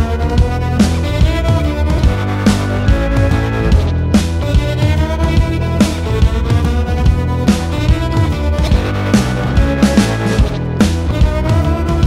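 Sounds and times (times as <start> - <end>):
drum beat: 0.0 - 12.0
sustained instrumental tones: 0.0 - 12.0.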